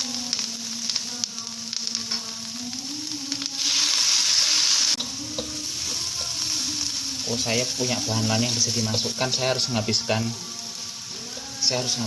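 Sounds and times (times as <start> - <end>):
food sizzling in hot oil: 0.0 - 12.0
water hissing in hot pan: 0.0 - 12.0.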